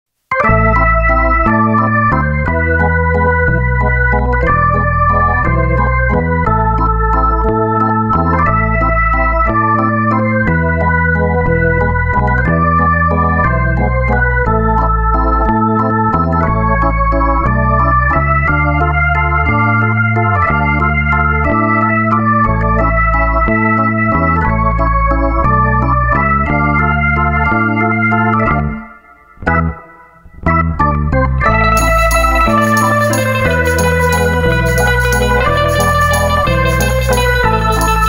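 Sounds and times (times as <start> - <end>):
held keyboard chords: 0.3 - 38.0
stepping bass line: 0.3 - 38.0.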